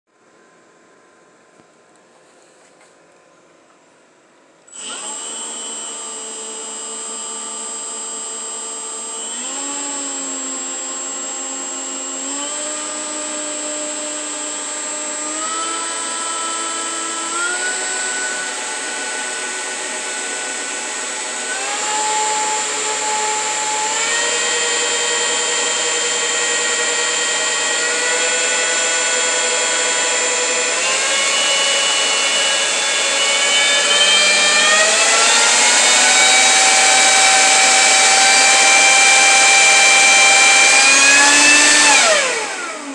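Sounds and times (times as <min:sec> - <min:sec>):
leaf blower whining: 0:04.7 - 0:42.9.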